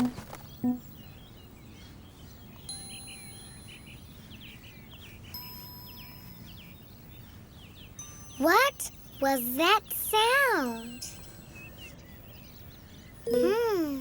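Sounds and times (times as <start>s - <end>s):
birds chirping: 0.0s - 14.0s
soft chime tones: 2.4s - 14.0s.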